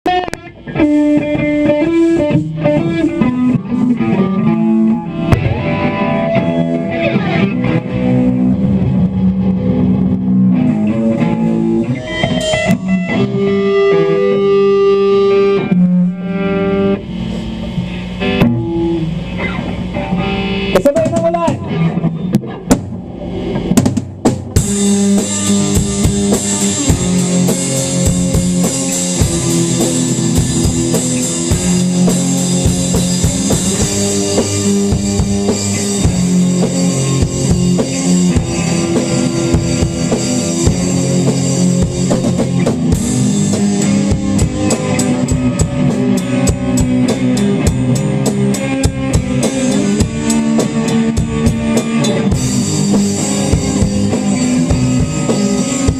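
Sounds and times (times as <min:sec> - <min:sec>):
tapped electric guitar: 0:00.0 - 0:55.9
drum-kit beat: 0:00.1 - 0:16.1, 0:20.7 - 0:55.9.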